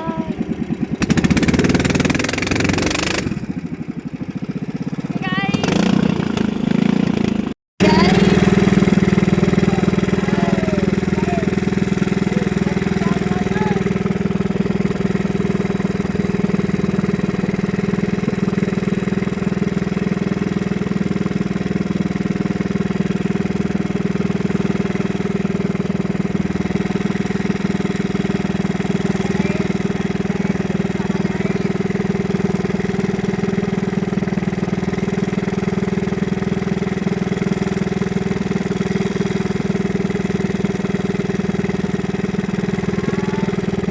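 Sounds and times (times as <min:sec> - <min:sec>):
boat engine running steadily: 0:00.0 - 0:43.9.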